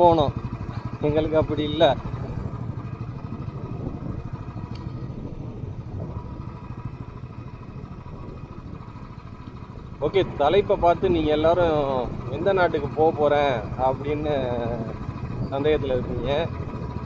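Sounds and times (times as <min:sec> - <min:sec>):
motorcycle engine cruising: 0:00.0 - 0:17.0
road and wind noise: 0:00.0 - 0:17.0.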